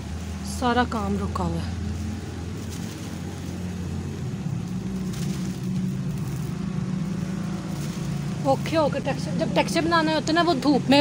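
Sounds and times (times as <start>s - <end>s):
steady traffic hiss: 0.0s - 11.0s
vehicle engine running: 0.0s - 11.0s.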